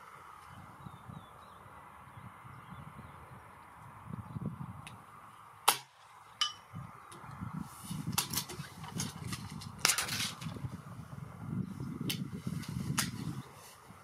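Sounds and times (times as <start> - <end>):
wind rumbling on microphone: 0.0 - 5.6, 6.2 - 14.0.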